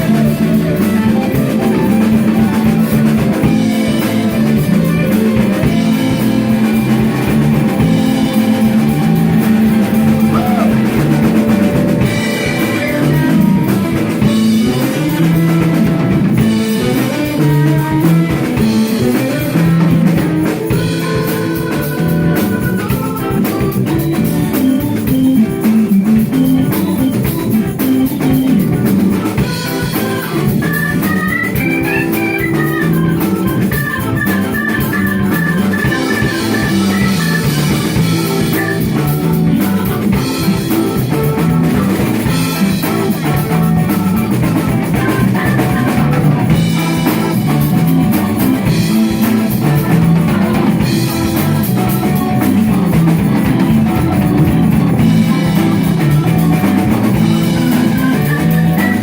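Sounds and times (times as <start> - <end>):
rock band instrumental: 0.0 - 59.0.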